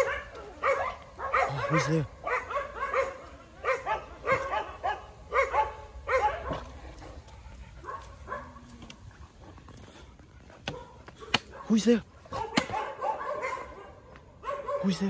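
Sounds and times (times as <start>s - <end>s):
dog barking: 0.0s - 7.1s, 7.8s - 8.7s, 10.7s - 15.0s.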